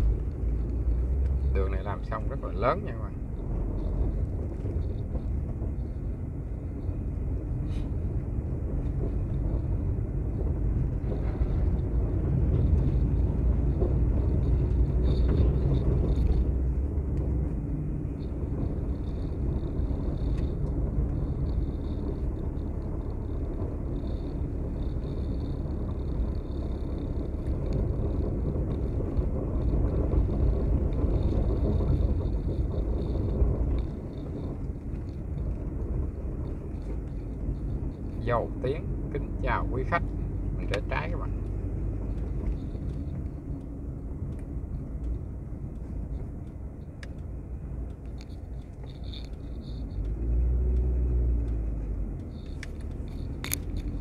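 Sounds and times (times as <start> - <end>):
vehicle rumbling on road: 0.0 - 54.0.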